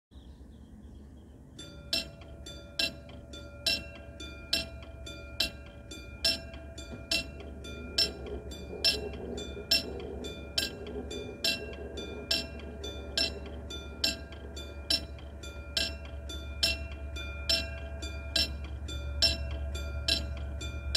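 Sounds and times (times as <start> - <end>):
level-crossing warning bell: 1.5 - 20.9.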